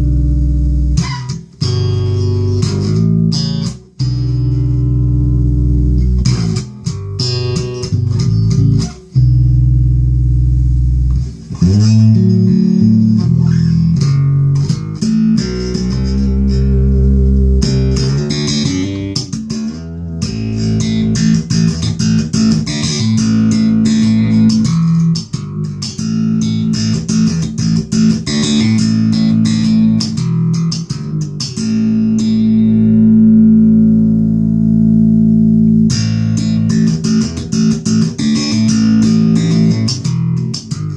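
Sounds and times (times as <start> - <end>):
electric bass plucked notes: 0.0 - 40.9.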